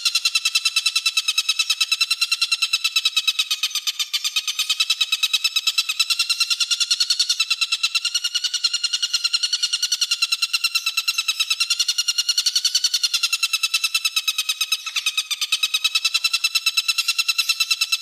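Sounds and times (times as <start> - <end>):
songbird rapid trill: 0.0 - 18.0.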